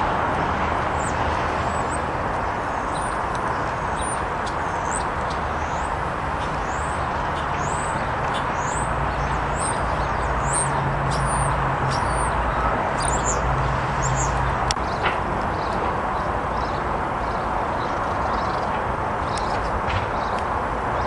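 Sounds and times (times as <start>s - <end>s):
rushing outdoor noise: 0.0s - 21.0s
small birds chirping: 1.0s - 21.0s.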